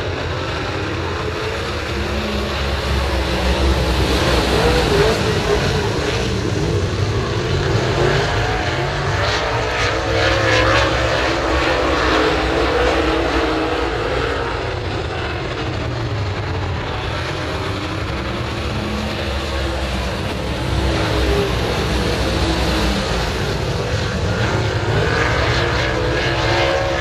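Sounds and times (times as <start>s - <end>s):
race car engines passing: 0.0s - 27.0s.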